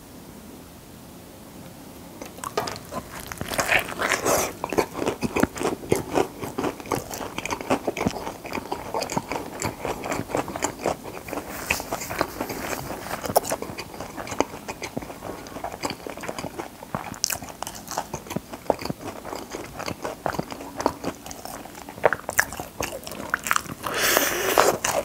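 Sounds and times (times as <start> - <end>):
crunching and chewing food: 2.2 - 25.0.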